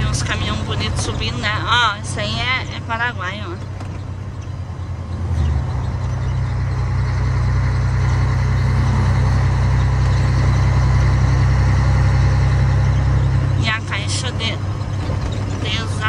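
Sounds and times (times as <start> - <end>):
diesel truck engine drone: 0.0 - 16.0.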